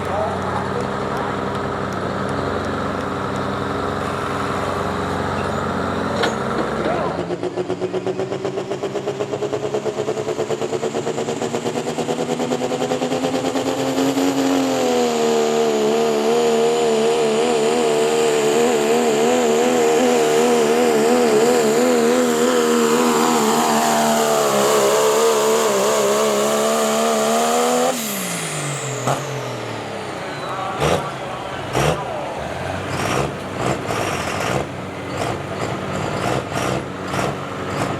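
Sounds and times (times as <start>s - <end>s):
pulling vehicle engine at full throttle: 0.0s - 37.9s.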